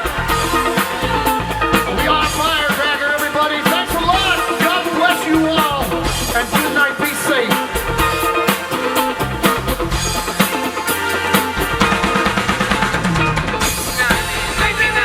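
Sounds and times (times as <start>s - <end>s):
live rock band playing: 0.0s - 15.0s
wavering guitar lead line: 0.0s - 15.0s.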